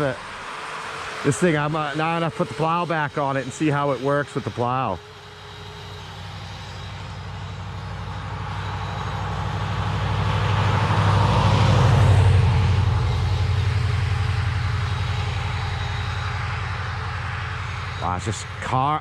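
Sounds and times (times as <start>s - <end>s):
vehicle driving past: 0.0s - 18.8s.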